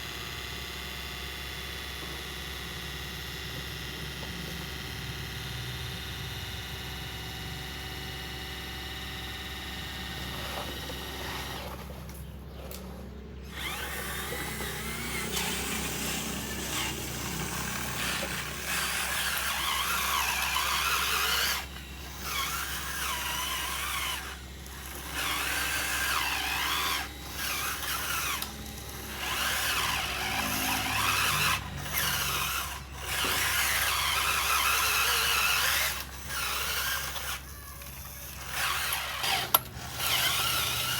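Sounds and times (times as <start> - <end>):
small electric motors whining: 0.0 - 40.9
steady hum: 2.5 - 40.9.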